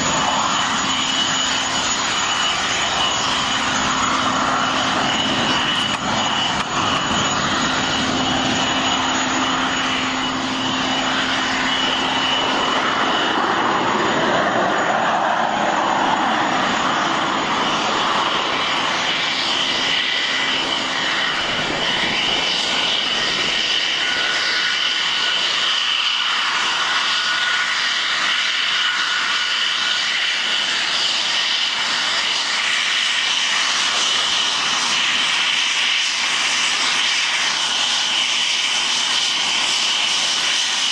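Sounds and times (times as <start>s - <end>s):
jet engines with turbine whine: 0.0s - 40.9s.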